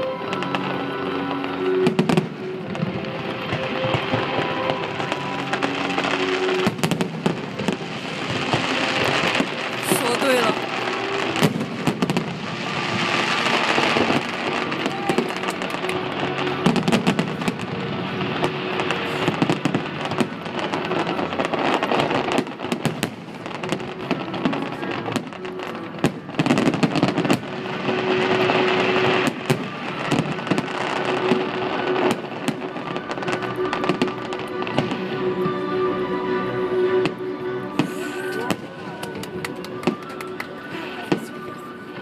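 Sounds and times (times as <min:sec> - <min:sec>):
fireworks bangs and crackling: 0:00.0 - 0:42.0
music playing: 0:00.0 - 0:42.0.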